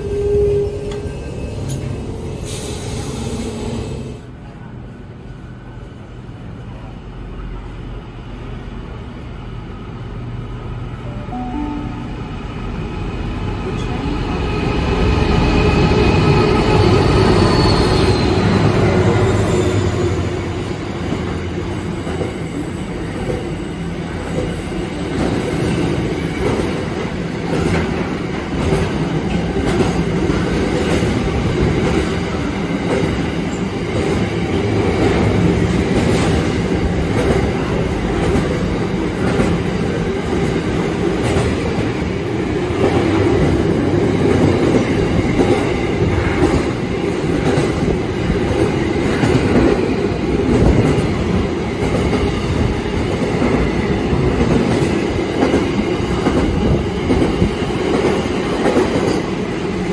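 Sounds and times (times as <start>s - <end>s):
train rumbling on rails: 0.0s - 59.9s.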